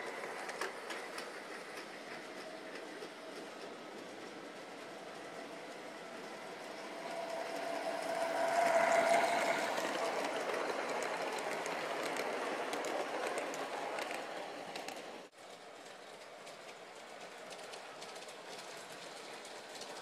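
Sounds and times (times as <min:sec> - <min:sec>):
model train rolling hum: 0:00.0 - 0:20.0
passing train whine: 0:00.0 - 0:20.0
wheels clicking over rail joints: 0:00.0 - 0:20.0.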